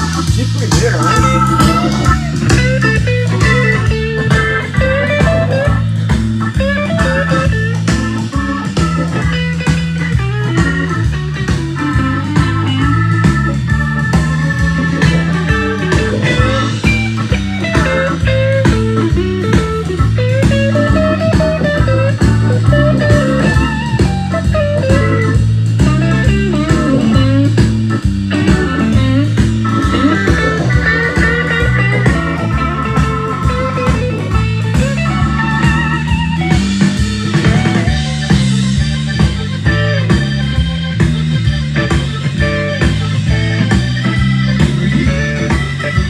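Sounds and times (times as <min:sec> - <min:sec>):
blues-rock music: 0:00.0 - 0:46.0.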